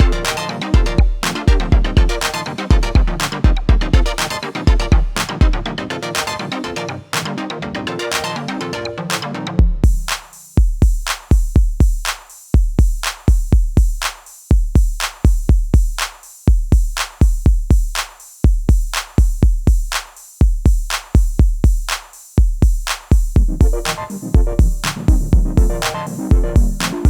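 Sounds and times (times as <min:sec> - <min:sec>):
drum machine beat: 0:00.0 - 0:06.6, 0:09.1 - 0:27.0.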